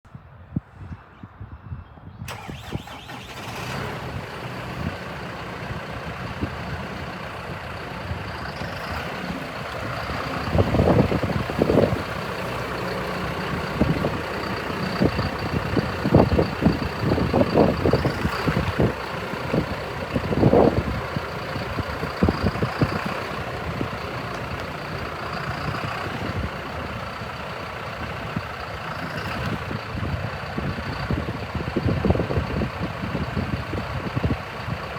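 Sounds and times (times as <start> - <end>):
tractor diesel engine running: 2.3 - 34.9.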